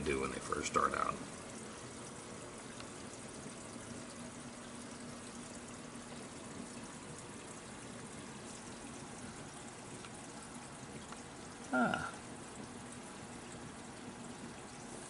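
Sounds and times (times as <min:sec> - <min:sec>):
water trickling in aquarium: 0:00.0 - 0:15.0.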